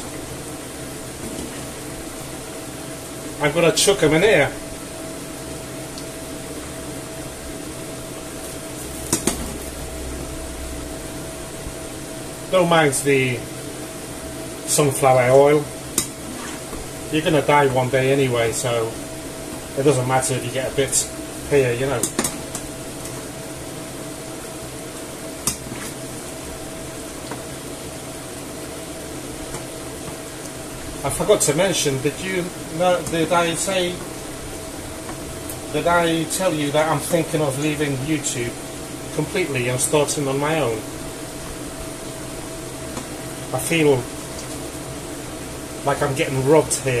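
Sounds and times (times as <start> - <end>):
pans hissing and humming: 0.0 - 47.0.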